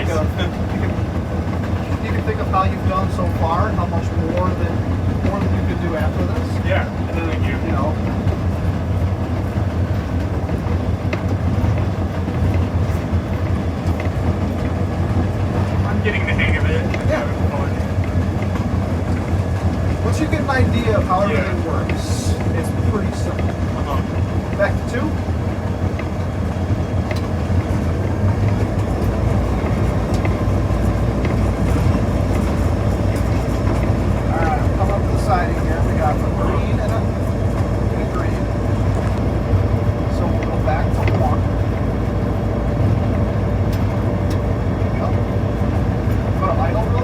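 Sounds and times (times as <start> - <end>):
locomotive diesel engine droning: 0.0 - 47.0
rail and wheel noise: 0.0 - 47.0.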